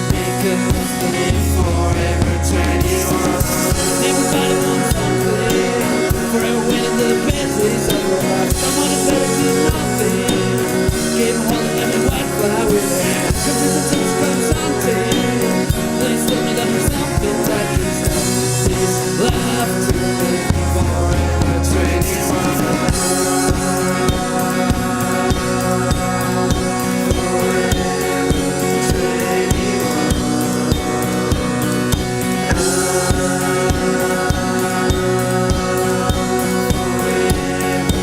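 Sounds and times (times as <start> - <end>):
folk-rock band playing: 0.0 - 38.0.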